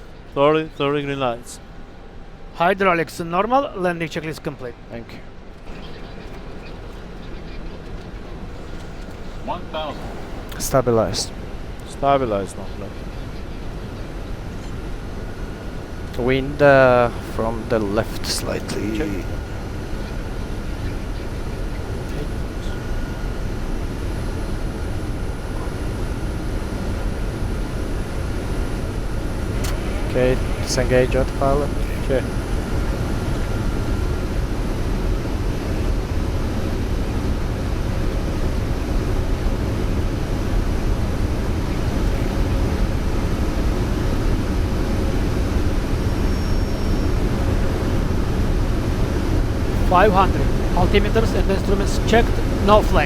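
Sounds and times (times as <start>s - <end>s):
airflow and engine noise in cockpit: 0.0s - 53.0s.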